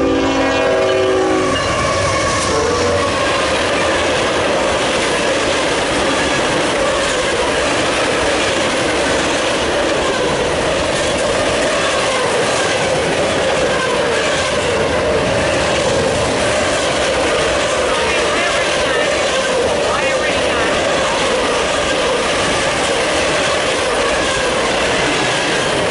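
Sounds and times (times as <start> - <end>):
freight train wheels rumbling: 0.0 - 25.9.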